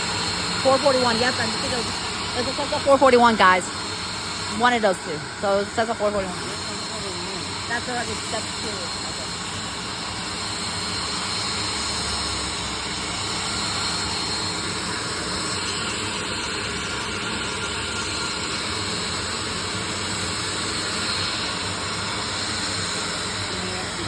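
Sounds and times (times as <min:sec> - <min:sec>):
aircraft turbine engines running: 0:00.0 - 0:24.0.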